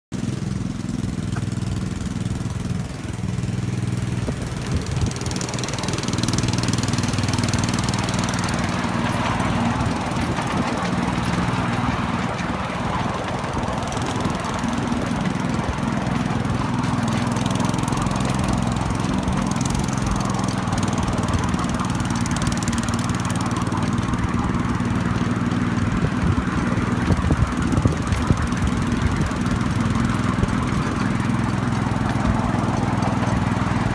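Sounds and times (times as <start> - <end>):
small locomotive engine running: 0.1 - 33.9
wheels rumbling on rail: 0.2 - 33.9.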